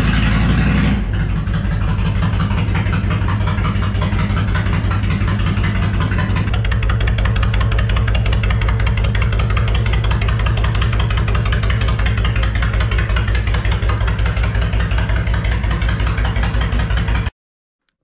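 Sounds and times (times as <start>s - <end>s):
motorcycle engine idling: 0.0s - 17.3s.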